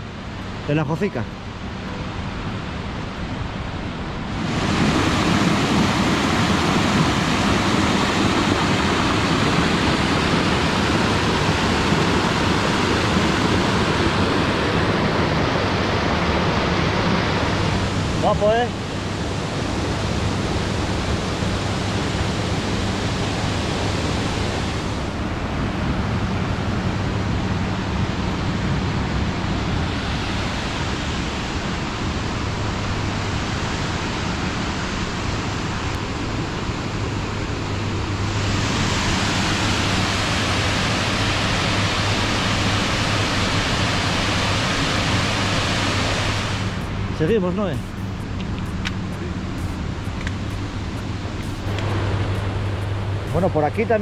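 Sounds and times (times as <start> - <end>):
fast river rushing: 0.0 - 54.0.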